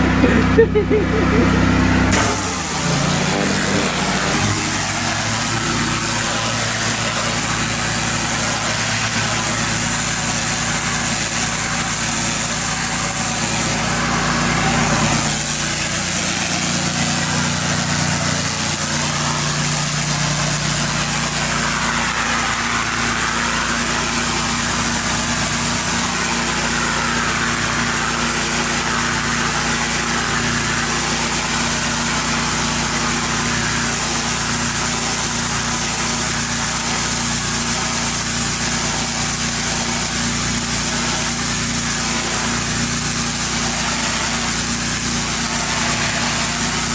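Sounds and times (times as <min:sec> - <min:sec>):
pressure washer engine running: 0:00.0 - 0:46.9
high hiss of water spray: 0:02.1 - 0:46.9.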